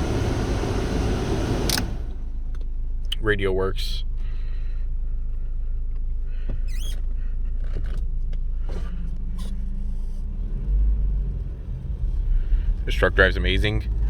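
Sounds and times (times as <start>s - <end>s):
pickup engine rumbling: 0.0s - 14.0s.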